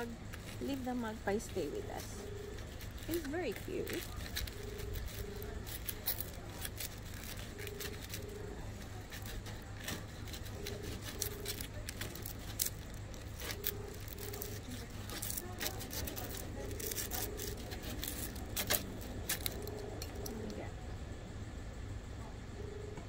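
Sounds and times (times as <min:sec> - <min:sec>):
low steady rumble: 0:00.0 - 0:23.0.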